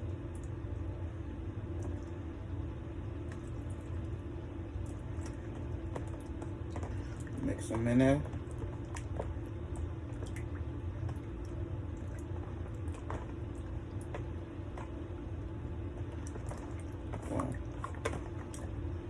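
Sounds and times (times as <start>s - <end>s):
small clicks and drips: 0.0s - 19.0s
steady low hum: 0.0s - 19.0s
wet batter squishing: 0.0s - 19.0s.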